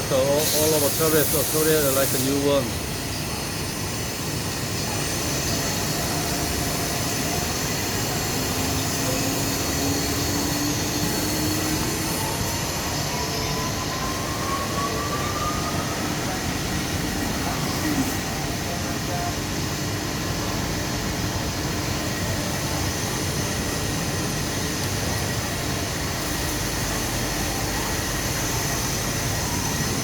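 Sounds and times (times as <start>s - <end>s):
lathe running with faint whine: 0.0s - 14.2s, 15.9s - 30.0s.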